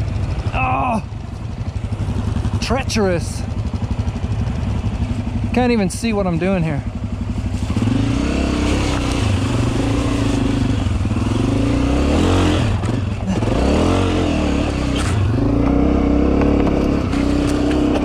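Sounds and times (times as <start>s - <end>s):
dirt bike engine revving: 1.9s - 18.0s.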